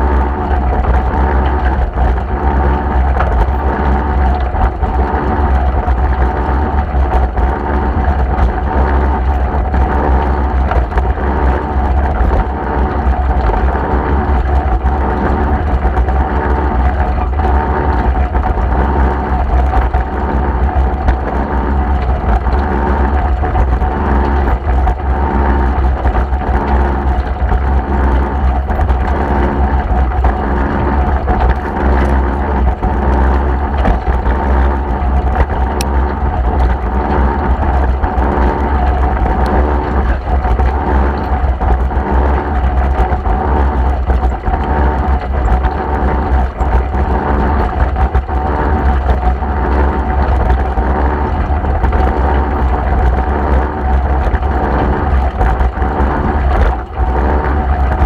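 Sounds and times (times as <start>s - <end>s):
tractor diesel engine rumbling: 0.0s - 58.0s.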